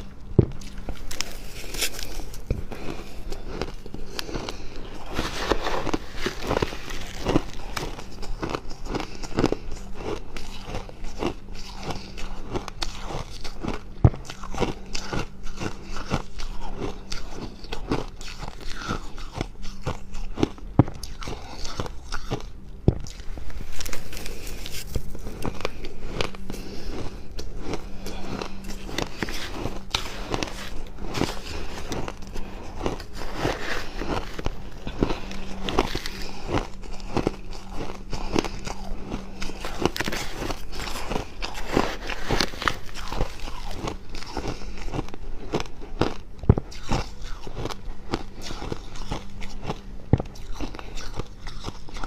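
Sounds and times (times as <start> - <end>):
chewing frost crunches: 0.0 - 52.0
steady low hum: 0.0 - 52.0.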